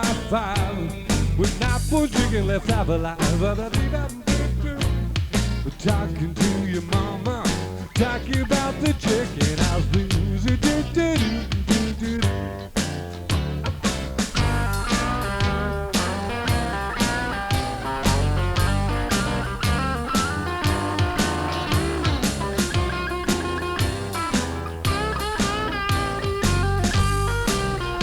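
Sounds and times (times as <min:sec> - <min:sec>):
blues-rock band playing: 0:00.0 - 0:28.0
guitar lead with sliding notes: 0:00.0 - 0:28.0.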